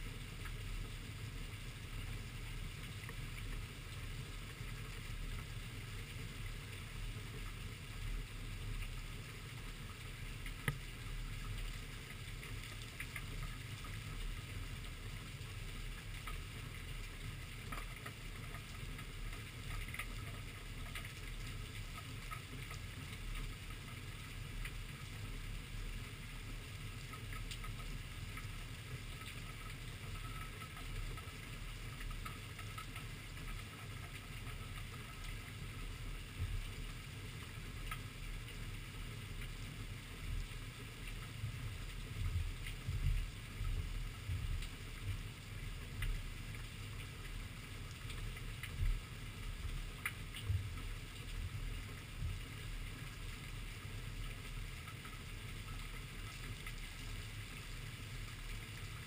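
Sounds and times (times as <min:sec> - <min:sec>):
muffled rain rumble: 0:00.0 - 0:59.0
raindrops ticking on camera: 0:00.0 - 0:59.0.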